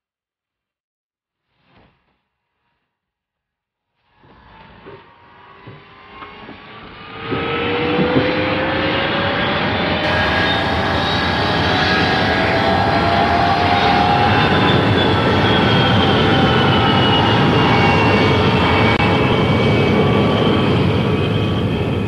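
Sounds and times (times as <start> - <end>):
jet engines spooling up: 4.3 - 22.0.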